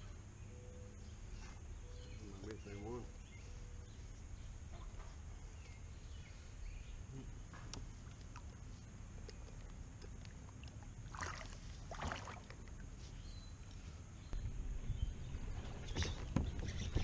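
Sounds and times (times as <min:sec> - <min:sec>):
faint outdoor ambience: 0:00.0 - 0:17.0
low steady rumble: 0:03.0 - 0:16.9.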